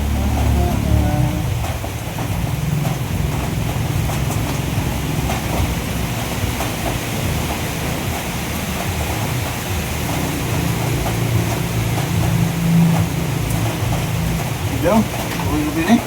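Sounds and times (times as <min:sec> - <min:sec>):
motorcycle engine uneven throb: 0:00.0 - 0:16.0.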